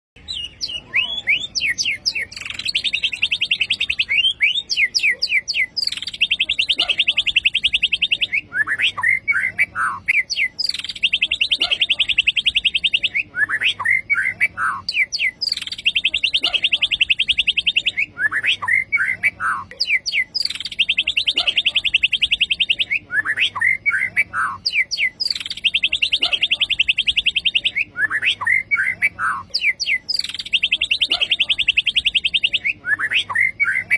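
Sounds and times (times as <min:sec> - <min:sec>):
bird song with buzzy trills: 0:00.2 - 0:33.9.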